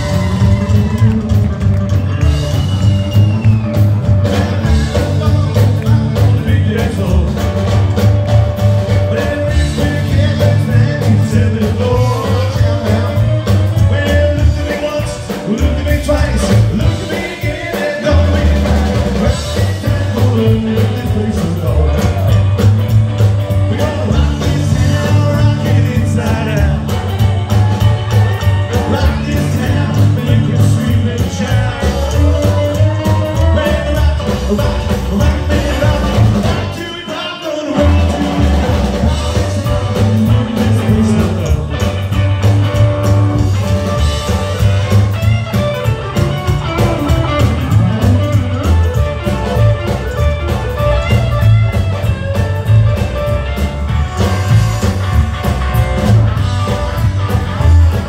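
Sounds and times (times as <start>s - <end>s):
upright double bass: 0.0s - 37.0s, 37.8s - 58.0s
drum kit: 0.0s - 58.0s
electric guitar: 0.0s - 58.0s
rockabilly band playing: 0.0s - 58.0s.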